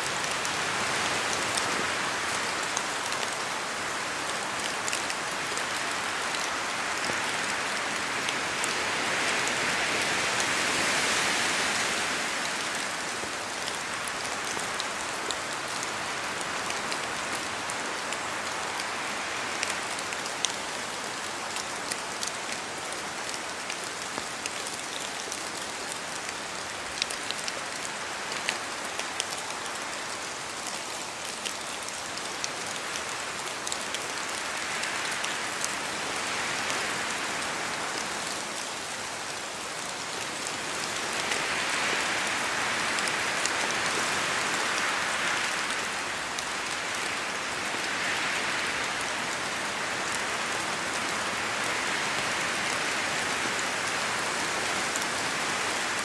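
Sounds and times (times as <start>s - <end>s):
rain falling through trees: 0.0s - 56.0s
wind gusts through canopy: 0.0s - 56.0s.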